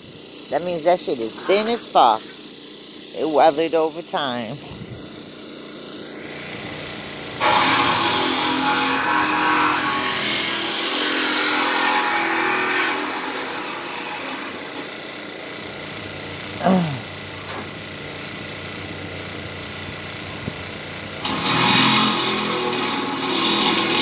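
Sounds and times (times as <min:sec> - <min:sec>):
power saw cutting steel: 0:00.2 - 0:24.0.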